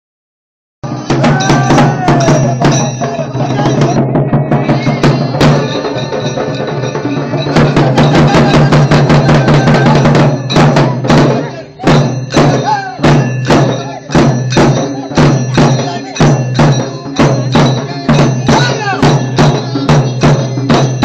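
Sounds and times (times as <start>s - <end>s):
heavy rapid drum beats: 0.8s - 21.0s.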